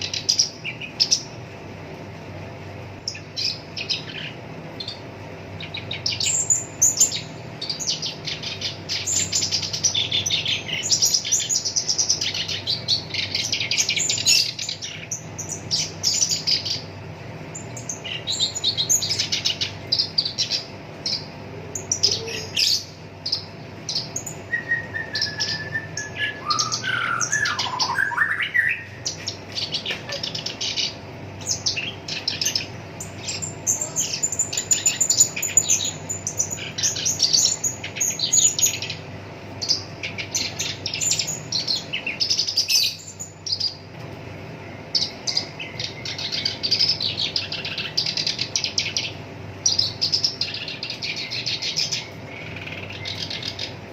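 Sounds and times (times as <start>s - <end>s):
reed warbler singing: 0.0s - 43.9s, 44.5s - 53.9s.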